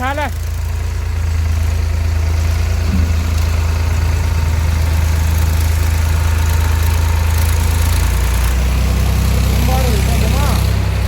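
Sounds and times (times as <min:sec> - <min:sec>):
crane engine humming: 0:00.0 - 0:11.0.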